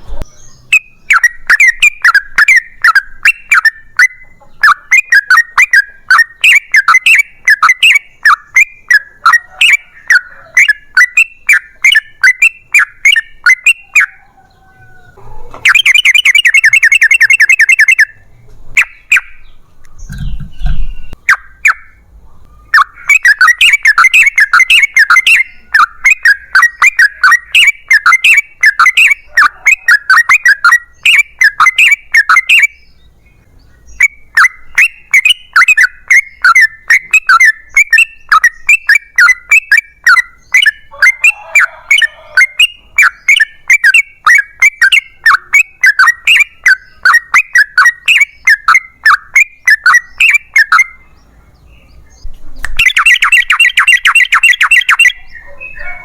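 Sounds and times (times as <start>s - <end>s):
bulbul singing chattering notes: 0.0s - 14.2s, 15.6s - 22.0s, 22.6s - 33.1s, 33.8s - 56.0s.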